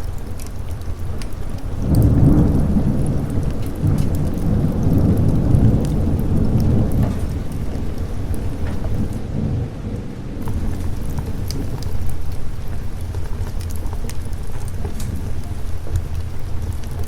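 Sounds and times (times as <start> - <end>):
rain pattering: 0.0 - 17.0
thunder rumbling: 0.0 - 17.0.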